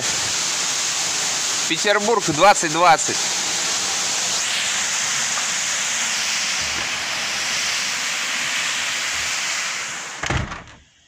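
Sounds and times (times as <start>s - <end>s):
water jet spraying with loud hiss: 0.0s - 10.3s.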